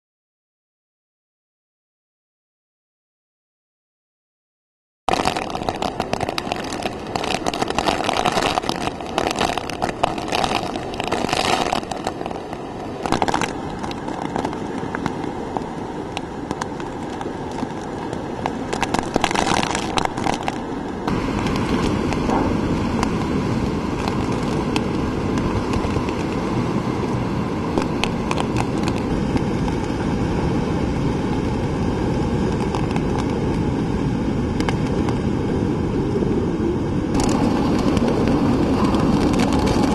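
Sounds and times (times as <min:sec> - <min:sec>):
driving rain: 0:05.1 - 0:39.9
wind buffeting microphone: 0:05.1 - 0:39.9.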